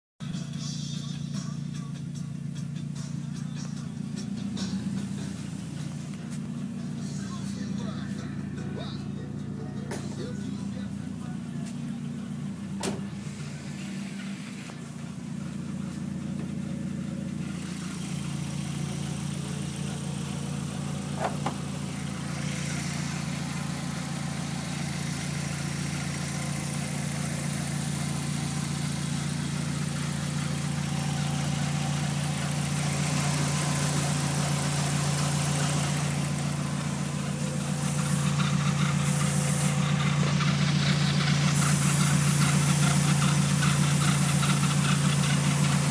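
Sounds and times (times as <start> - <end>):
car engine running: 0.2 - 45.9
engine belt noise: 0.2 - 45.9.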